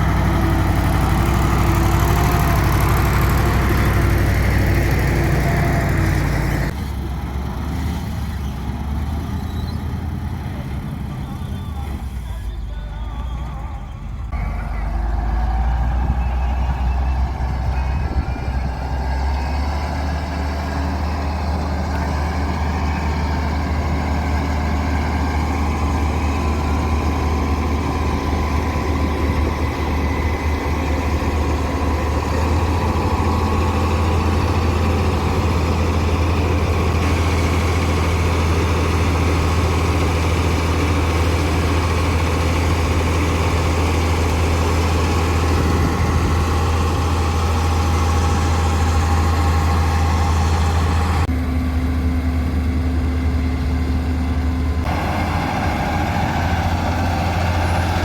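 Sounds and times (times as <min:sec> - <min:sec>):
heavy diesel engine humming: 0:00.0 - 0:58.0.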